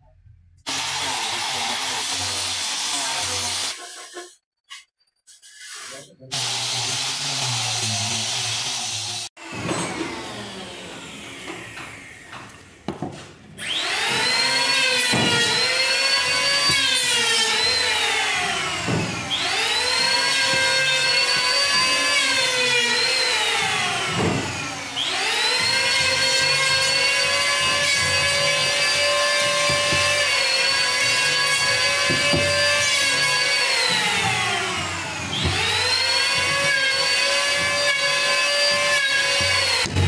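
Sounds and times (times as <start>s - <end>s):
angle grinder whining: 6.3s - 13.0s, 13.6s - 40.0s.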